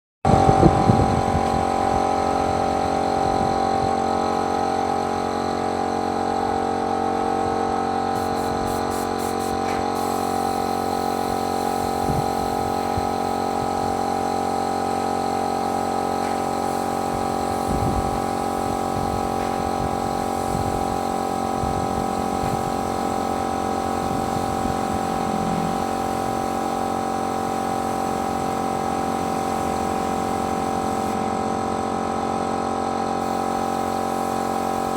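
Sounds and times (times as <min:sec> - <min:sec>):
paint-spraying machine humming: 0:00.3 - 0:34.9.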